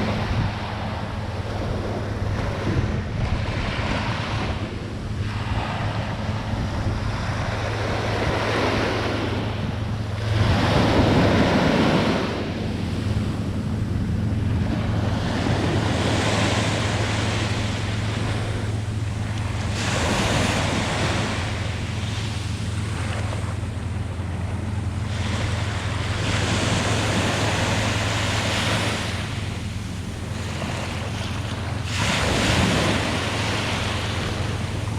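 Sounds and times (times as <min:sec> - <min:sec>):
waves breaking on a beach: 0:00.0 - 0:34.9.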